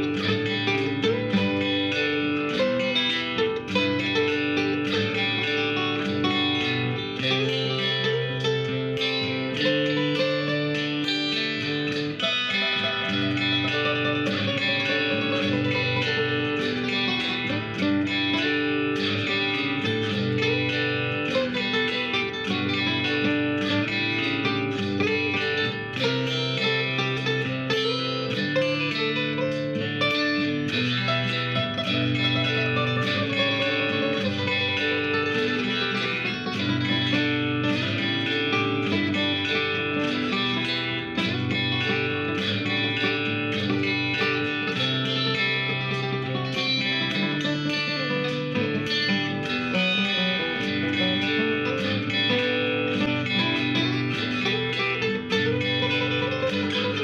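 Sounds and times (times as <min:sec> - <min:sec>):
guitar background music: 0:00.0 - 0:57.0.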